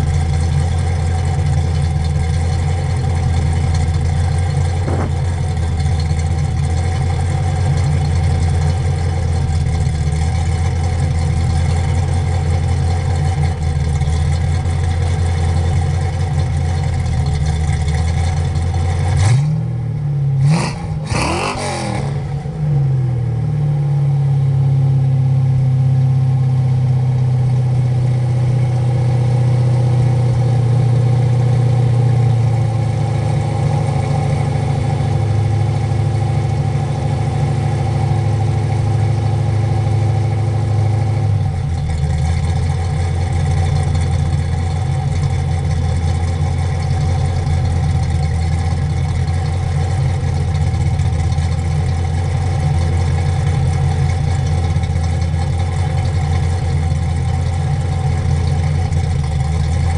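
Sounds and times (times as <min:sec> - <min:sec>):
vee eight engine idling: 0:00.0 - 0:59.9.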